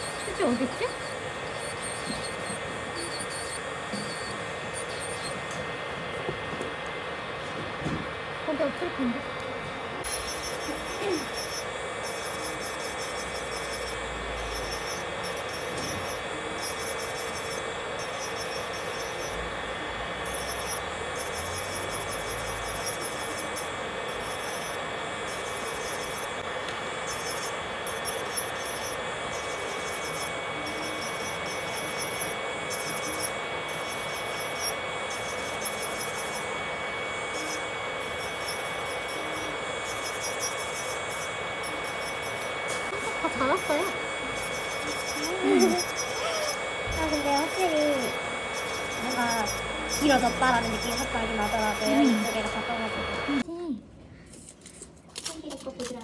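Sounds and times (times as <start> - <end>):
drill bit grinding fingernails: 0.0 - 7.0, 9.4 - 53.4
electric nail drill whine: 0.0 - 53.4.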